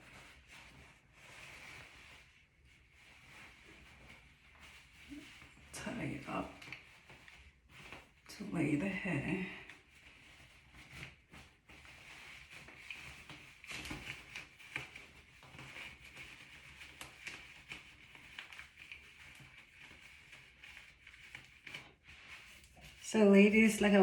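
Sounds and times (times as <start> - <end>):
hair rustling: 0.0 - 24.0.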